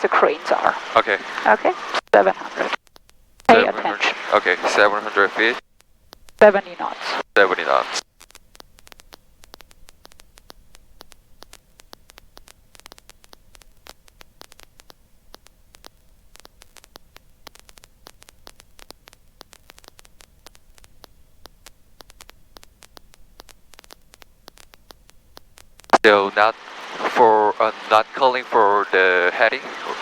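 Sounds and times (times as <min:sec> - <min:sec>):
crackling clicks: 0:00.0 - 0:30.0
intercom static hum: 0:00.0 - 0:30.0.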